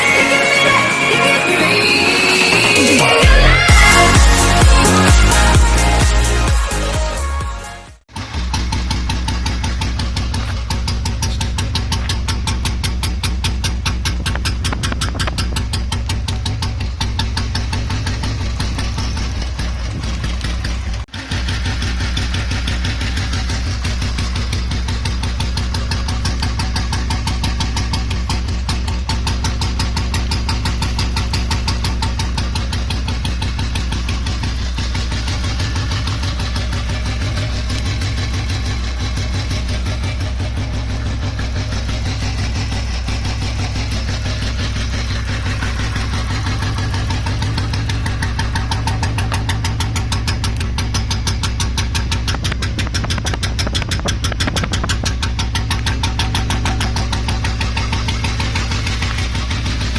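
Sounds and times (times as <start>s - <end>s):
motorcycle engine thumping: 8.0s - 59.9s.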